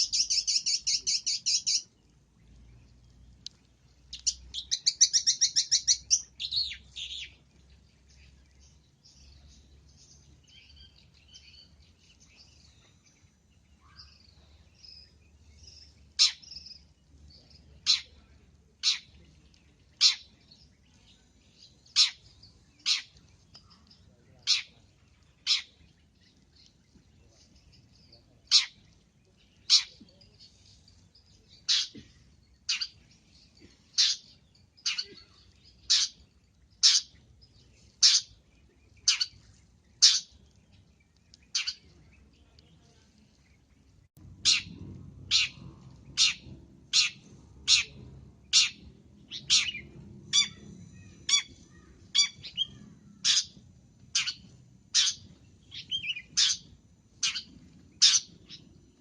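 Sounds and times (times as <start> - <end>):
low background rumble: 1.9 - 59.0.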